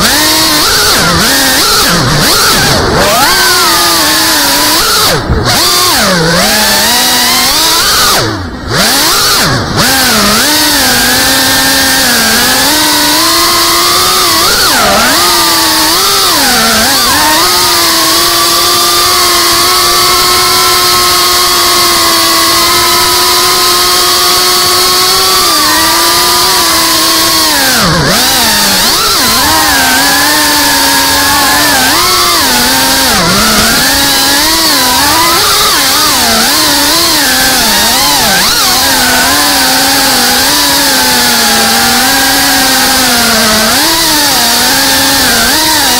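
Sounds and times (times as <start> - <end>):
drone motors whining: 0.0 - 45.9.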